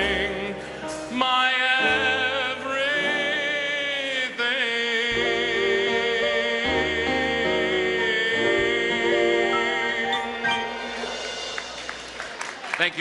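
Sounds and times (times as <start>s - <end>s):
man singing with vibrato: 0.0s - 11.1s
swing band chords: 0.0s - 13.0s.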